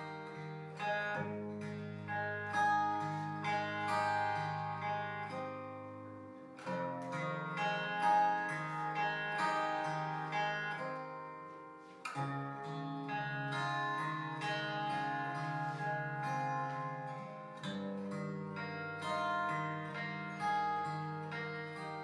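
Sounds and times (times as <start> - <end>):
slow acoustic guitar music: 0.0 - 22.0.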